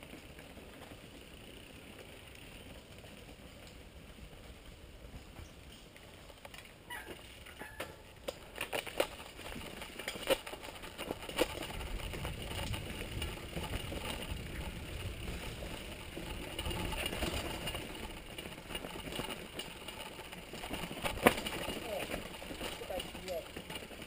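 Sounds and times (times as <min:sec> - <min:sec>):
bike knocking and rattling on stones: 0:00.0 - 0:24.0
tyres rumbling on gravel: 0:00.0 - 0:24.0.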